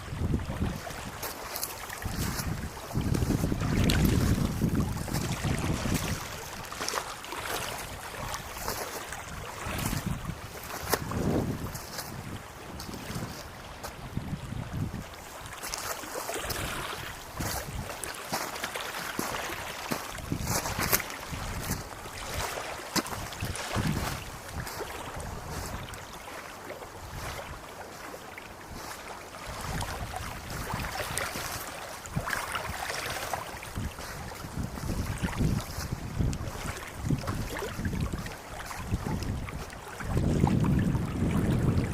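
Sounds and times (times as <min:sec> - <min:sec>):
wind buffeting microphone: 0:00.0 - 0:18.5, 0:19.2 - 0:26.0, 0:28.7 - 0:41.9.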